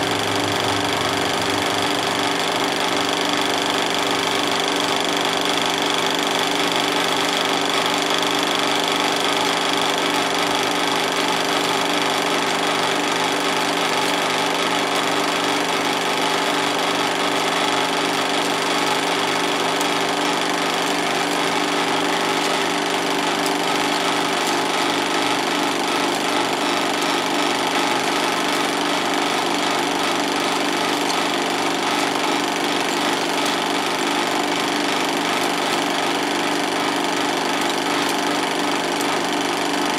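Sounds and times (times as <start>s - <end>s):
film projector clatter: 0.0s - 39.9s
motor hum: 0.0s - 39.9s.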